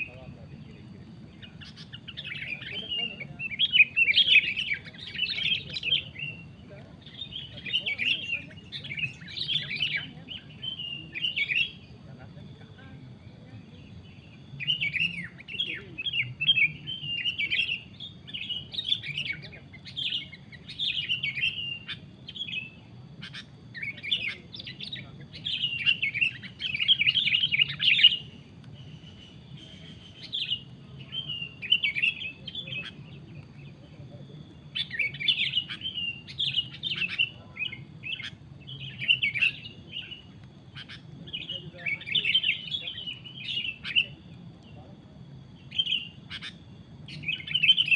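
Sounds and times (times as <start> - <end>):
bulbul chattering calls: 0.0 - 47.9.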